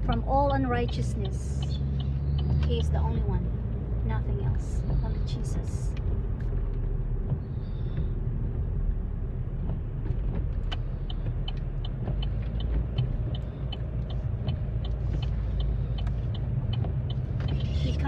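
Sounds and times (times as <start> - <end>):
car engine and tyre rumble: 0.0 - 18.0
light regular ticking: 0.0 - 18.0.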